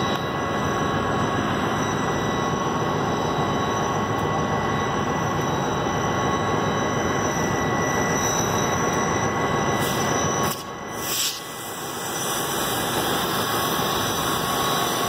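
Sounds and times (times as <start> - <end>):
diesel locomotives idling: 0.0 - 15.0
thin steady whine: 0.0 - 15.0.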